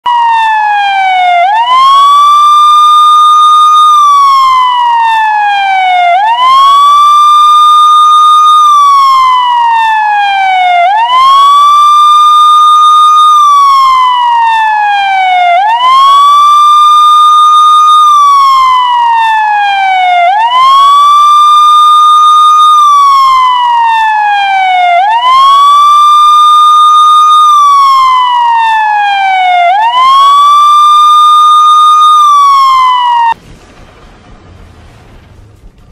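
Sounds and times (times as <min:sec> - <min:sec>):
wailing siren: 0:00.0 - 0:33.4.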